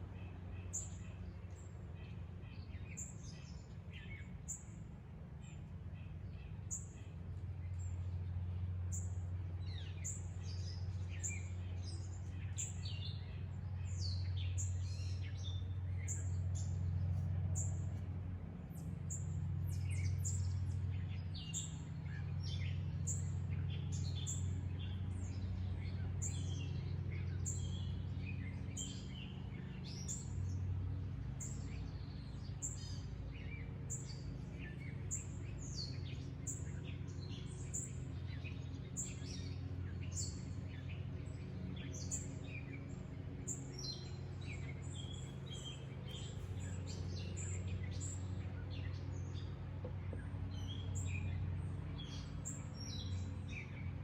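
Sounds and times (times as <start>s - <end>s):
birds chirping and singing: 0.0s - 18.0s, 18.7s - 54.0s
steady low hum: 0.0s - 54.0s.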